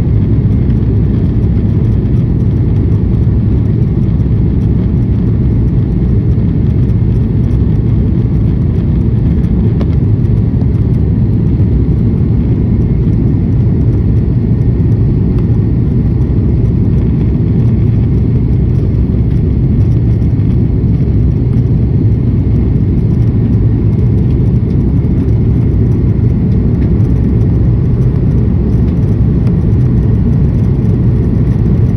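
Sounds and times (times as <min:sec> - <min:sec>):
airliner cabin engine rumble: 0:00.0 - 0:31.9.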